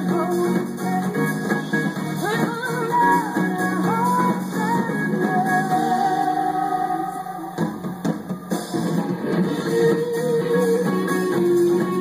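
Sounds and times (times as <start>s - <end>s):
electric guitar: 0.0s - 12.0s
live rock band: 0.0s - 12.0s.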